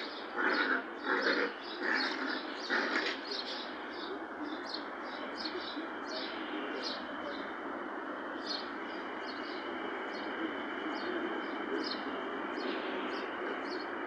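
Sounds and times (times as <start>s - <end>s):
small birds chirping: 0.0s - 14.0s
steady background noise: 0.0s - 14.0s.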